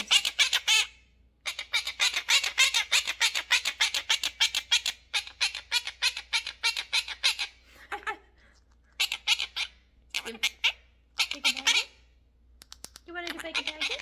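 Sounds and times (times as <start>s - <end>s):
parrot squawking: 0.0s - 8.1s, 8.9s - 12.1s, 13.2s - 14.0s.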